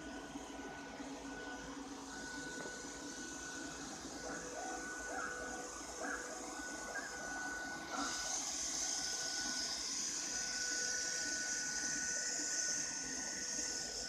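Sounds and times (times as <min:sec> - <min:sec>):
robot vacuum fan whine: 0:00.0 - 0:14.0.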